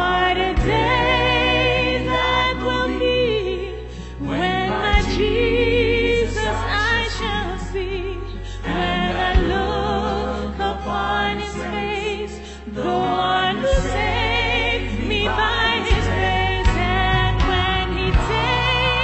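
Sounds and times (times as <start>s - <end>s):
backing track with bass: 0.0s - 19.0s
woman singing with vibrato: 0.0s - 19.0s.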